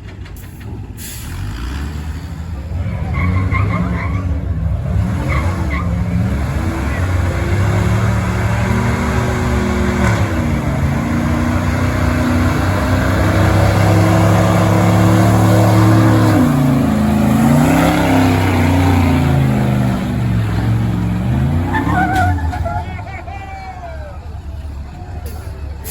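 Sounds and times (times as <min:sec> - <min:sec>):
truck engine revving under load: 0:00.0 - 0:23.3.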